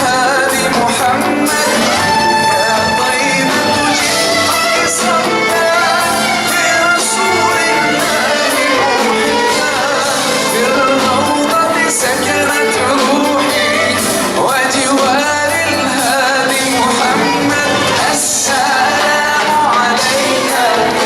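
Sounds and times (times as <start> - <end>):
music with singing: 0.0 - 21.0.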